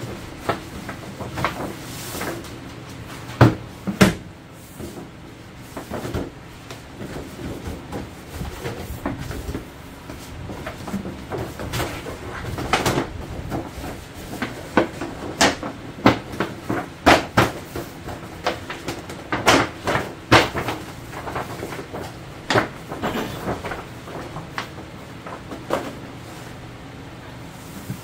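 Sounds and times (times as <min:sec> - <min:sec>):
cardboard boxes tapping and sliding: 0:00.0 - 0:26.2, 0:27.6 - 0:28.0.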